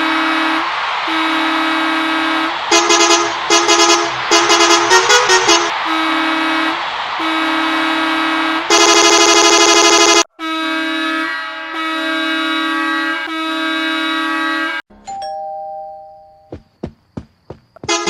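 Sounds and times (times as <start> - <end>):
bus air horn: 0.0 - 14.8.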